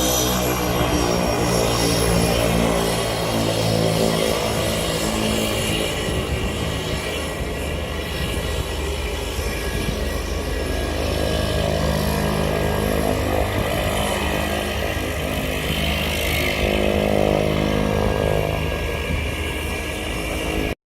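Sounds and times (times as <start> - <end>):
airplane engine humming: 0.0 - 20.8.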